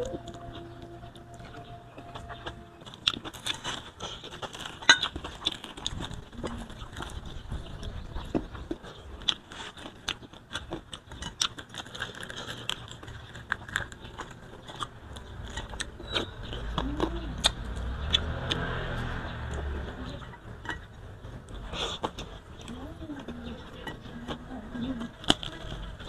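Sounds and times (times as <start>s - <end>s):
chewing: 0.0s - 26.0s.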